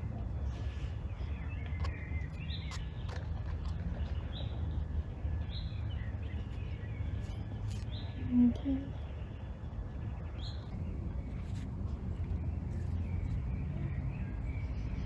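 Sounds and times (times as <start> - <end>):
birds calling: 0.0 - 15.0
low outdoor rumble: 0.0 - 15.0.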